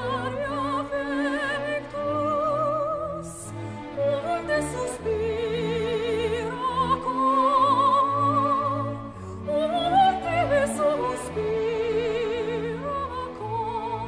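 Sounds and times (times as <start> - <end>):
operatic singing: 0.0 - 14.0.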